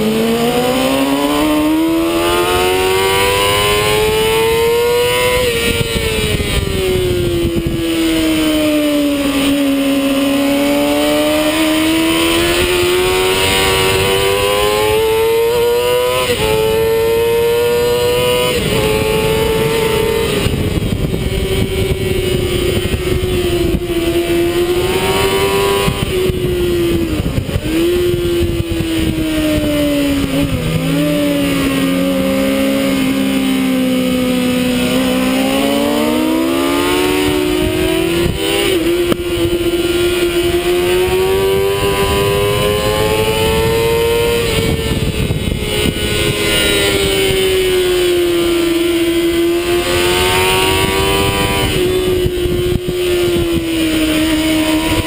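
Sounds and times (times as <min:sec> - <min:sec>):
motorcycle engine revving: 0:00.0 - 0:55.0
wind rushing on microphone: 0:00.0 - 0:55.0.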